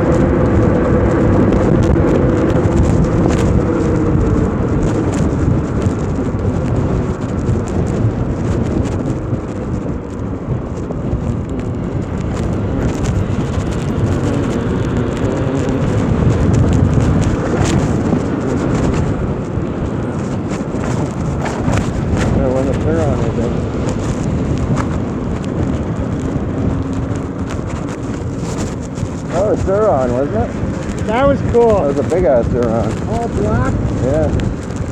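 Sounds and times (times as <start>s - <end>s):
tyre noise: 0.0s - 34.9s
wind buffeting microphone: 0.0s - 34.9s.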